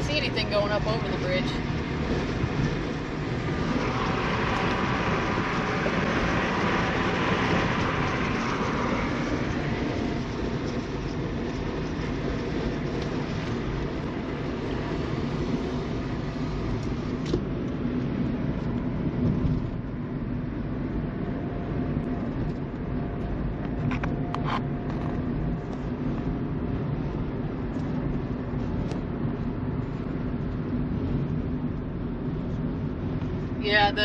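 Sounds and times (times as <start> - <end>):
car road noise from inside: 0.0 - 34.0.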